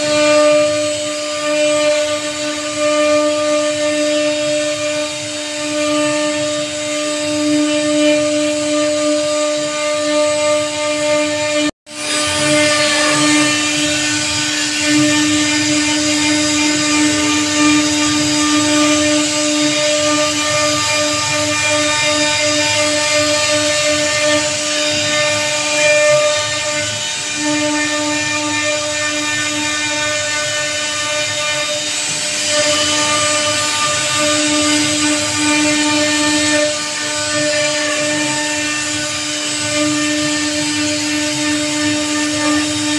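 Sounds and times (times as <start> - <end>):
router spindle whine: 0.0 - 42.9
wood cutting noise: 0.0 - 42.9.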